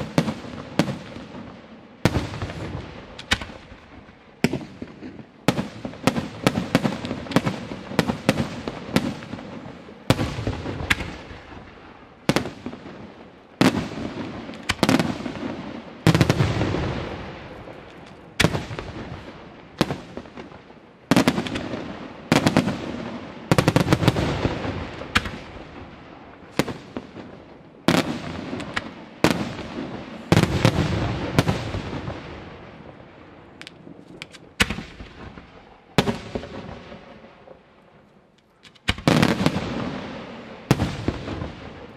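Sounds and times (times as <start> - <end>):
rolling echo: 0.0 - 41.9.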